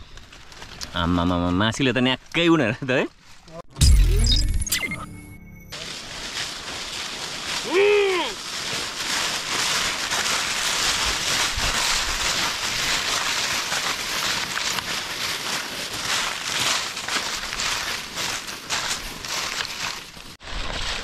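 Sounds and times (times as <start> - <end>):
footsteps crunching dry leaves: 0.0 - 1.6, 5.6 - 21.0.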